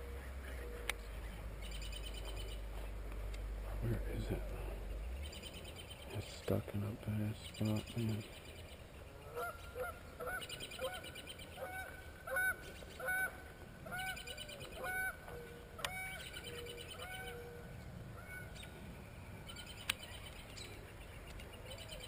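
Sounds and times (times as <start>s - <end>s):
bird calling: 0.0s - 22.0s.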